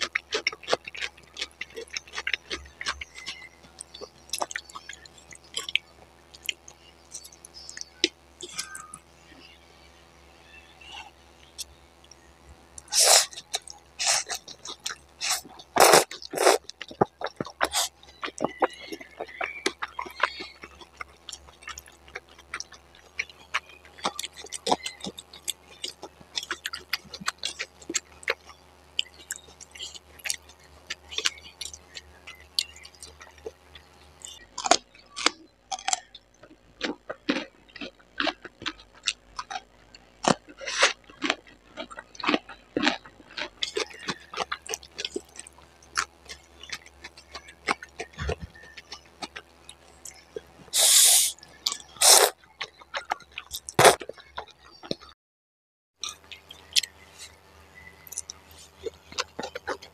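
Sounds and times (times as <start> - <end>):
chewing crisp vegetables: 0.0 - 9.6, 10.8 - 55.1, 56.0 - 59.9.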